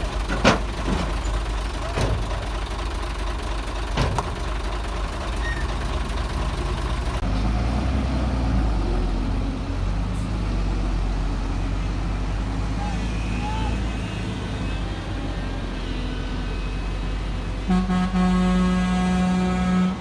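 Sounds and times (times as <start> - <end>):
diesel engine of heavy machinery: 0.0 - 20.0.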